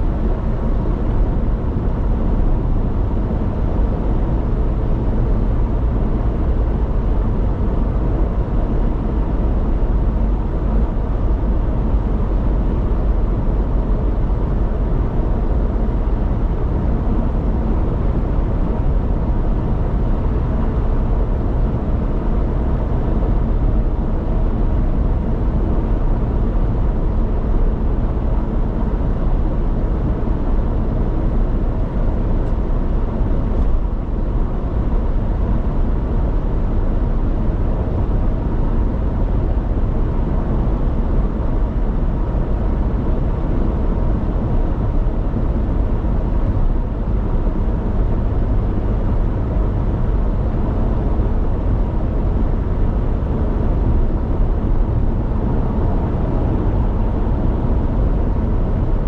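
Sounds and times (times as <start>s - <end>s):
car road noise at highway speed: 0.0s - 59.0s.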